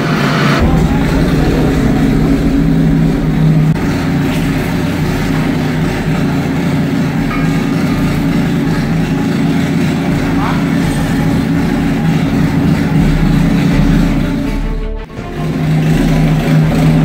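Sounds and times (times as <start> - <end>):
buggy engine running steadily: 0.0 - 17.0.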